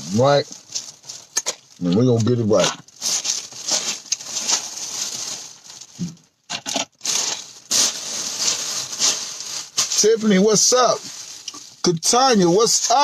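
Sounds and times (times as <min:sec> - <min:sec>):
crackling rustling noise: 0:00.0 - 0:13.0.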